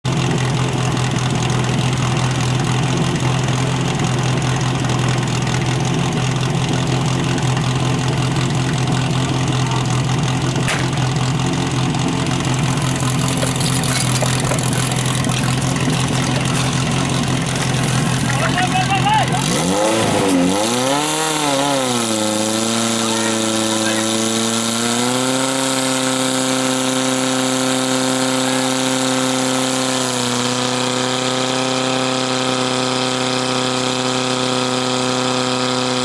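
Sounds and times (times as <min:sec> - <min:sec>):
pump engine running: 0:00.0 - 0:36.0.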